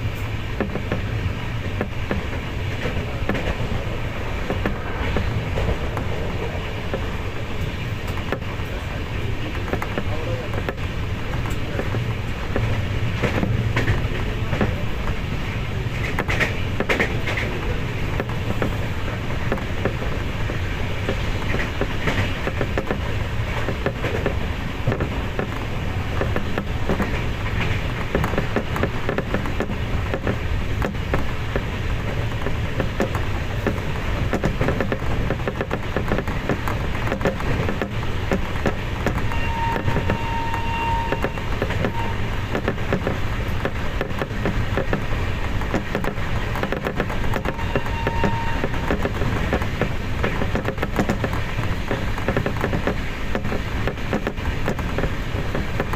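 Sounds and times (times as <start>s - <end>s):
train rumbling on track: 0.0s - 55.9s.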